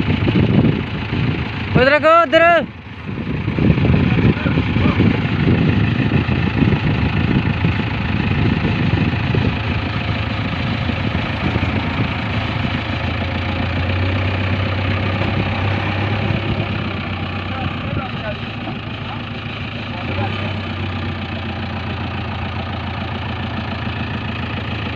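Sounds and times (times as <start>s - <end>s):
heavy diesel engine rumbling: 0.0s - 24.9s.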